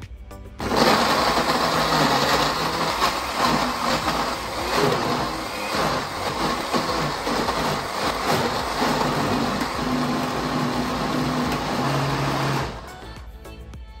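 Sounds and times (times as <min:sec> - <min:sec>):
electric blender running: 0:00.6 - 0:13.0.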